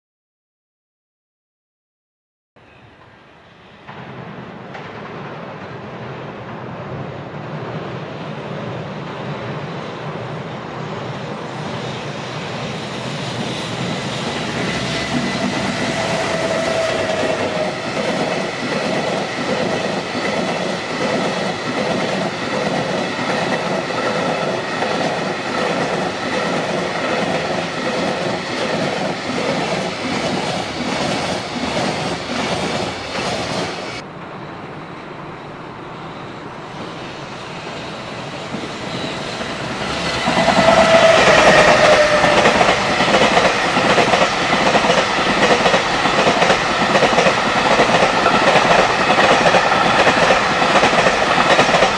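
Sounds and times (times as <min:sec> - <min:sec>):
freight train passing: 0:02.6 - 0:51.9
train whine: 0:02.6 - 0:51.9.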